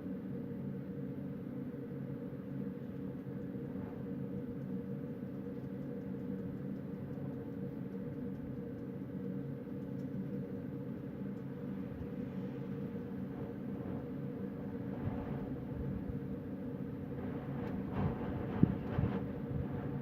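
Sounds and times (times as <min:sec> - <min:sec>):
faint hum: 0:00.0 - 0:20.0
low rumble of wind: 0:00.0 - 0:20.0.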